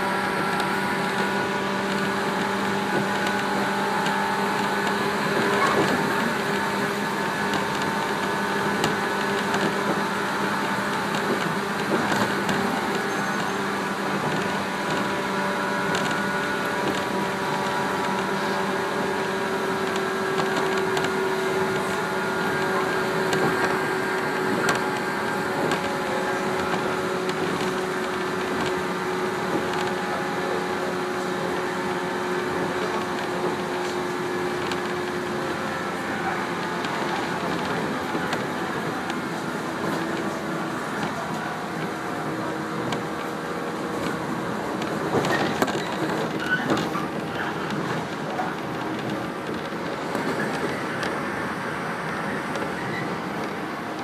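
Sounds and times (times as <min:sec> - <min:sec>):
rail-joint clacks: 0:00.0 - 0:54.0
train motor tones: 0:00.0 - 0:54.0
train wheels rumbling on rail: 0:00.0 - 0:54.0.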